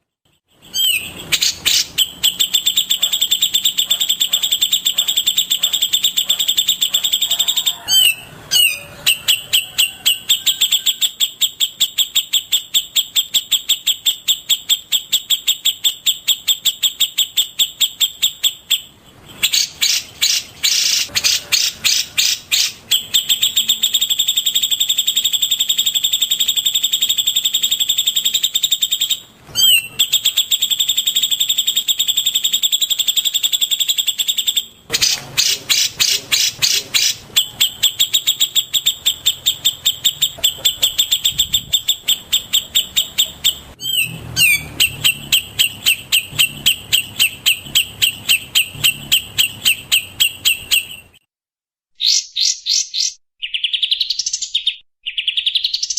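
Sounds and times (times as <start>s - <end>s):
songbird song high notes: 0.3s - 51.3s, 52.0s - 55.9s.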